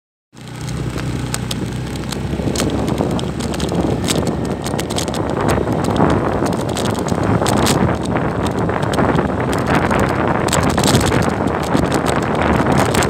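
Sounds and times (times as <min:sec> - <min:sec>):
motorcycle engine running: 0:00.4 - 0:13.0
wind rushing over microphone: 0:00.4 - 0:13.0.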